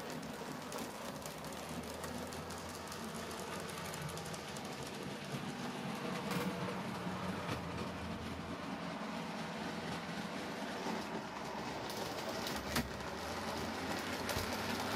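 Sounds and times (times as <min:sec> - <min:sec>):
model train wheels and motors: 0:00.0 - 0:14.9.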